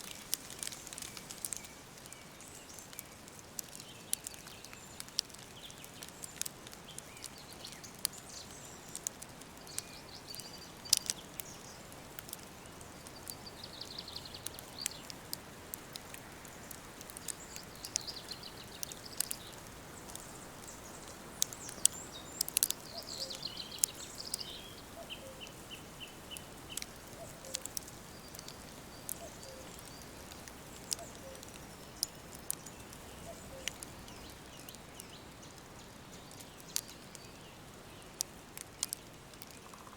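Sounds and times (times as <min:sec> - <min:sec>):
steady soft hiss: 0:00.0 - 0:39.9
woodland birds singing: 0:00.0 - 0:39.9.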